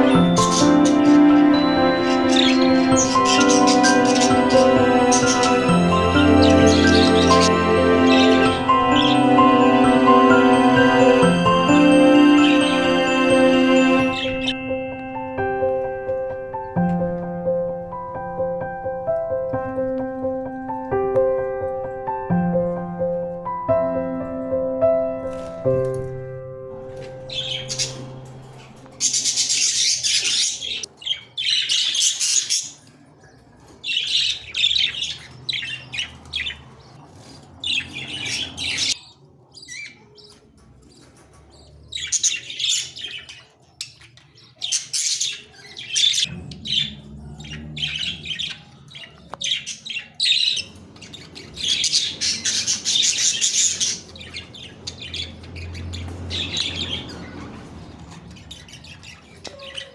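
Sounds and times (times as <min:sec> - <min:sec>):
cage birds chirping and singing: 0:00.0 - 0:59.9.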